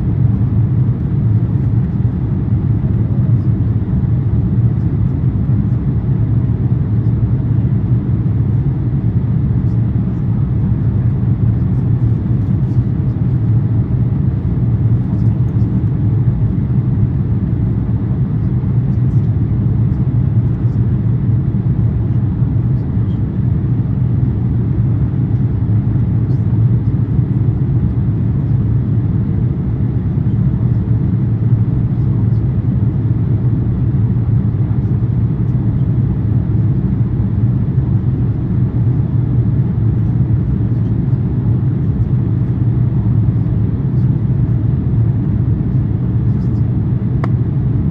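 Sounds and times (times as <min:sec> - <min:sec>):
airplane cabin rumble: 0:00.0 - 0:47.9.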